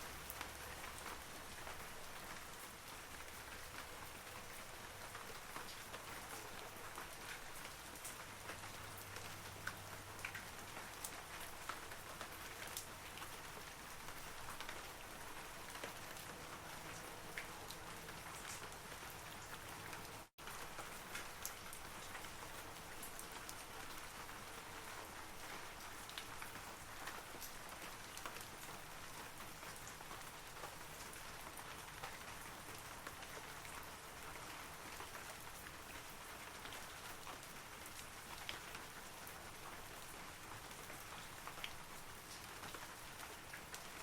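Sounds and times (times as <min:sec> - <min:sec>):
rain falling on trees: 0:00.0 - 0:44.0.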